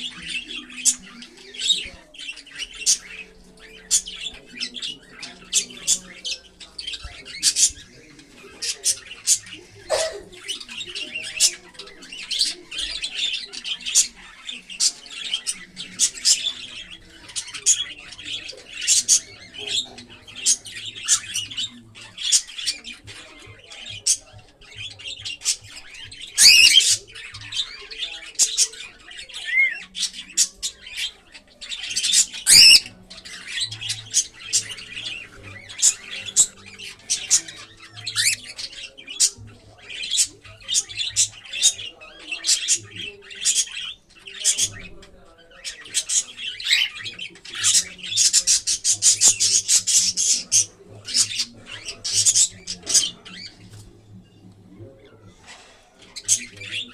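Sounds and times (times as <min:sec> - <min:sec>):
cockatiels chirping and squawking: 0:00.0 - 0:56.9.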